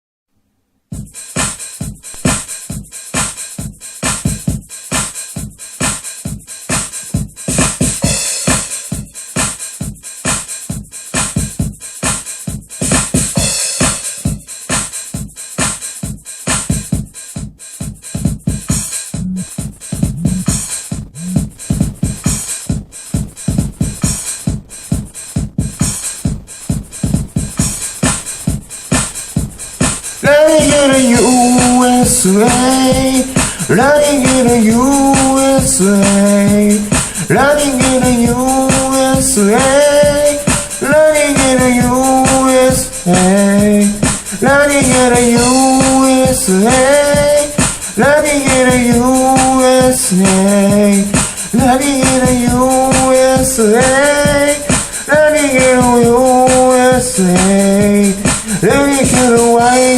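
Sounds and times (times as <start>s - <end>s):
electronic hip-hop beat: 1.0s - 59.9s.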